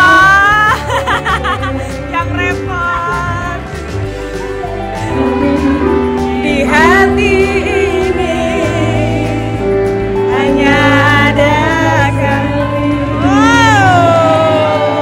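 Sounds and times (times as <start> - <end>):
amplified singing: 0.0 - 15.0
backing track music: 0.0 - 15.0.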